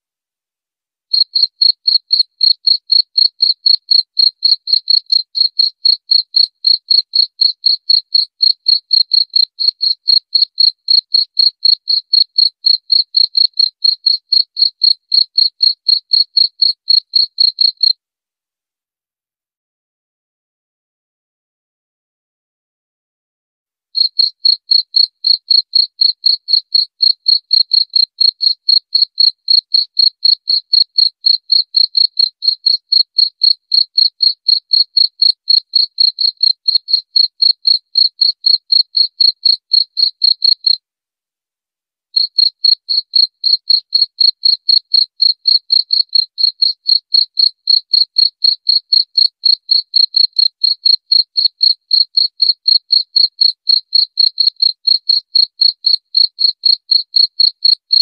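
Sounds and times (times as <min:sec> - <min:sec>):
cricket chirping: 0:01.1 - 0:18.0, 0:24.0 - 0:40.8, 0:42.2 - 0:58.0.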